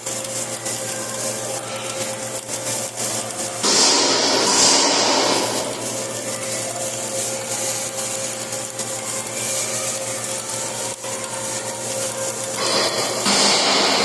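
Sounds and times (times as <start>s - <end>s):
welding arc crackling hiss: 0.0s - 14.0s.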